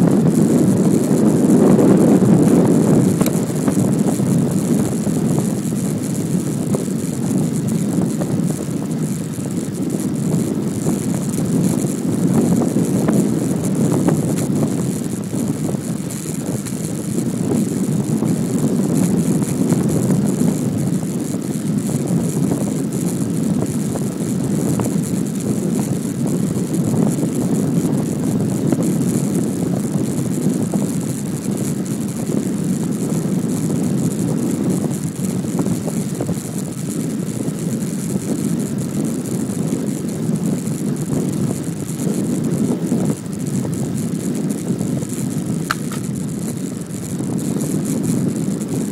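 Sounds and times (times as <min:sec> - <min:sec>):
bicycle tyres rolling on asphalt: 0:00.0 - 0:48.9
wind on microphone: 0:00.0 - 0:48.9.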